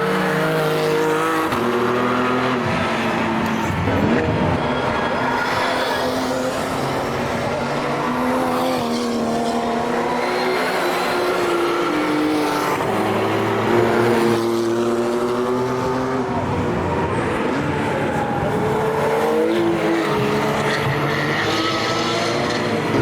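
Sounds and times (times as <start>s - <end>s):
race car engines revving high: 0.0s - 23.0s.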